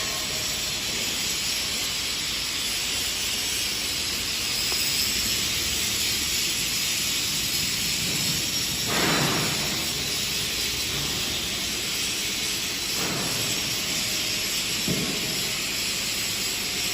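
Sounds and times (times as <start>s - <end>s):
steady hissing noise: 0.0s - 16.9s.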